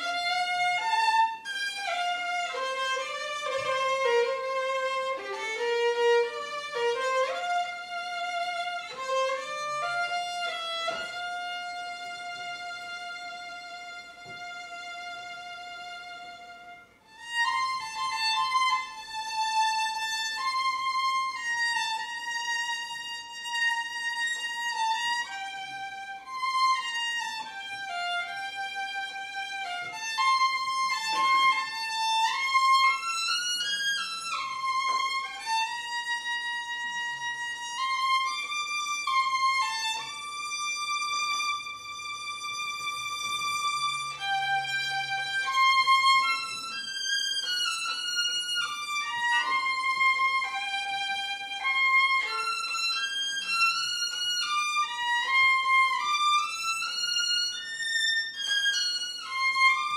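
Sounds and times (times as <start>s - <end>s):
violin playing slow melody: 0.0s - 59.9s.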